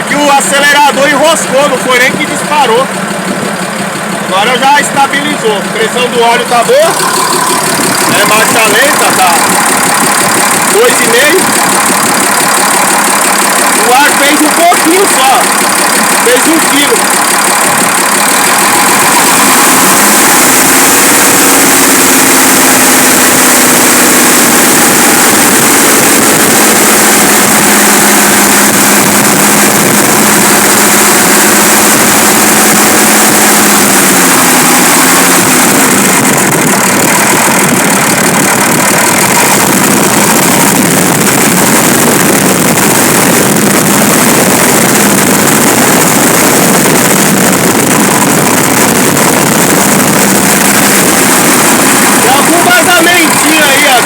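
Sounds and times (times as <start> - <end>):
air compressor running: 0.0 - 54.0
diesel truck engine idling: 0.0 - 54.0.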